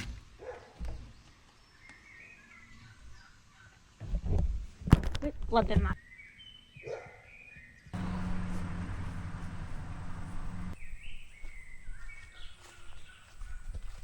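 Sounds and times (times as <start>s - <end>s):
songbirds chirping: 0.2s - 4.1s, 5.5s - 14.0s.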